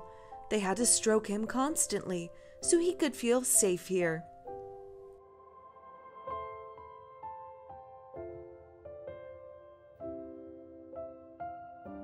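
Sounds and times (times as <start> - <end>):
slow soft piano chords: 0.0 - 12.0.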